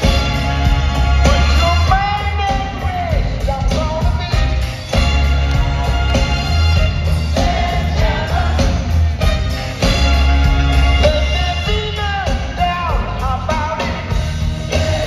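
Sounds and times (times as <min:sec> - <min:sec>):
heavy steady bass: 0:00.0 - 0:15.0
live rock band playing: 0:00.0 - 0:15.0.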